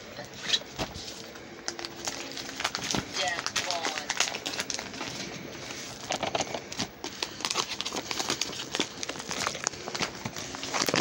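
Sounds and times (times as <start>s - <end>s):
paper mailer rustling and crinkling: 0.4s - 11.0s.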